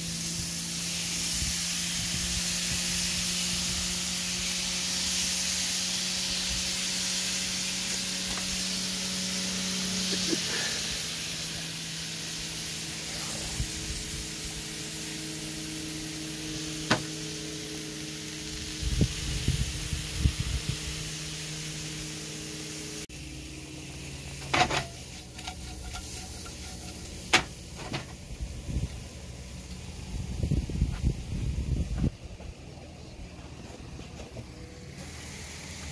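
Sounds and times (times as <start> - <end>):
shrimp sizzling in a frying pan: 0.0 - 30.4, 35.0 - 35.9.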